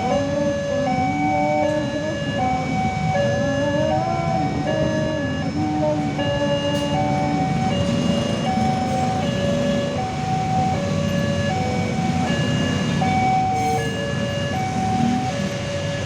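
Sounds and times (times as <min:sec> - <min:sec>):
level crossing alarm melody: 0:00.0 - 0:16.0.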